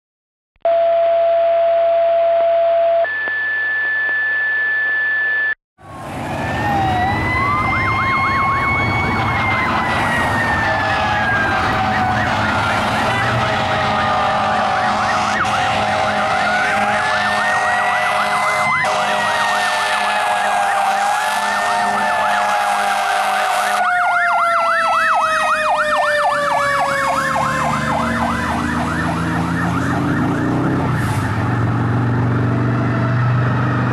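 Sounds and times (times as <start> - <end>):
electronic siren yelp: 0.7 - 33.4
mechanical siren wailing: 3.0 - 33.7.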